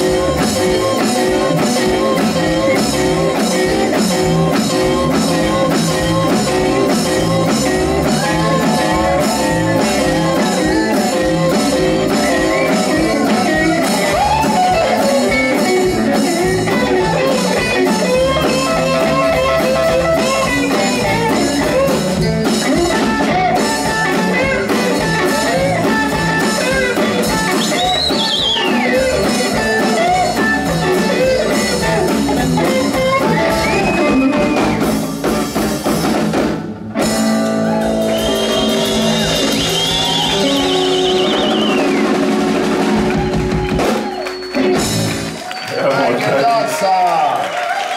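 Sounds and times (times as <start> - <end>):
electric guitar lead with bends: 0.0 - 45.5
blues band playing: 0.0 - 47.9.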